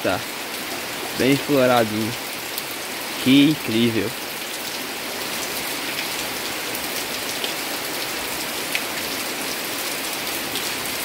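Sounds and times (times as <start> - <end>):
rain drops tapping: 0.0 - 9.2
steady rain hiss: 0.0 - 11.0.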